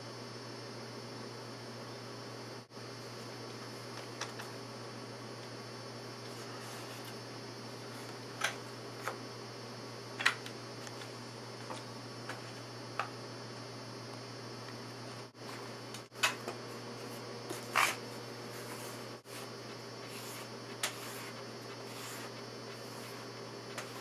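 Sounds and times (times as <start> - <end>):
electrical hum: 0.0 - 24.0
fan-like noise: 0.0 - 24.0.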